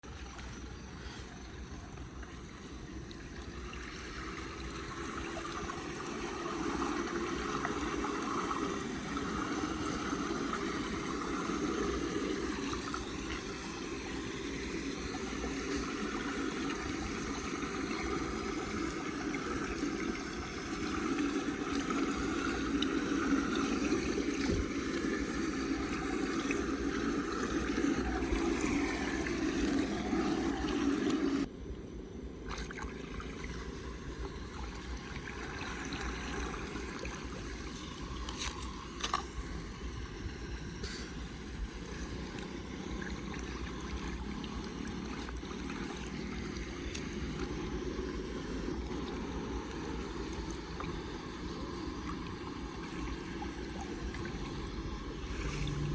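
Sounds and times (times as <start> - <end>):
water gurgling into drain: 0.0 - 31.5, 32.4 - 55.9.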